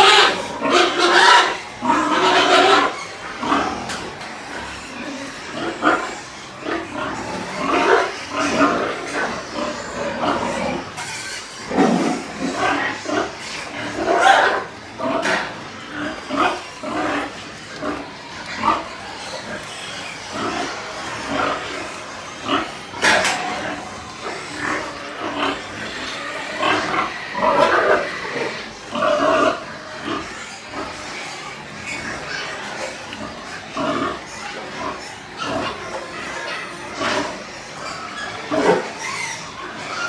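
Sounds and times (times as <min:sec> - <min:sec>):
pigs calling: 0:00.0 - 0:40.0.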